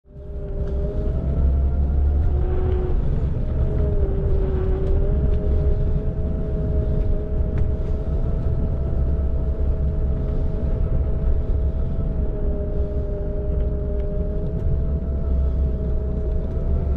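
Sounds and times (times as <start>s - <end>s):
heavy low rumble: 0.0s - 16.9s
electric scooter motor whine: 0.1s - 16.9s.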